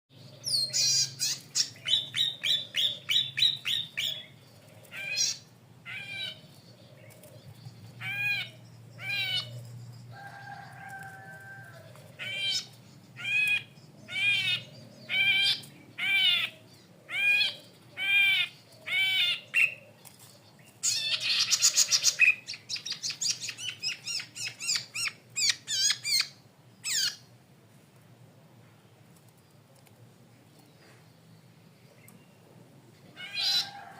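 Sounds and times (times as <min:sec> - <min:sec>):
bird chirping: 0:00.1 - 0:27.4, 0:29.1 - 0:33.9.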